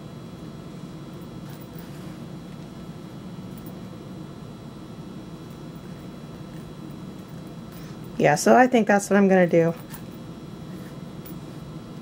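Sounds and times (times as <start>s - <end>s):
low hum with hiss: 0.0s - 12.0s.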